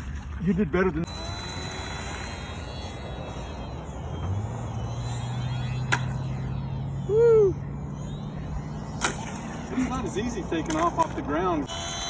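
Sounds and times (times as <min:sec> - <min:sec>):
model airplane motor humming: 0:01.0 - 0:12.0.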